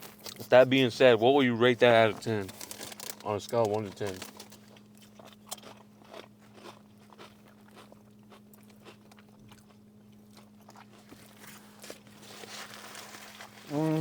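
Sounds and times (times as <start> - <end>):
person chewing food: 0.0 - 0.5, 1.9 - 14.0
steady low hum: 0.0 - 14.0.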